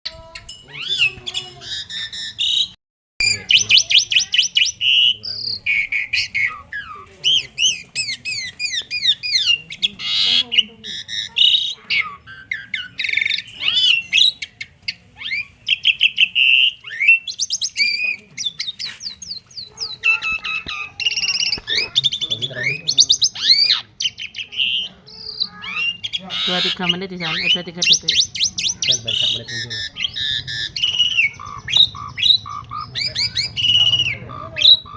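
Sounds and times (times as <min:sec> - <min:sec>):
starling singing: 0:00.1 - 0:34.9.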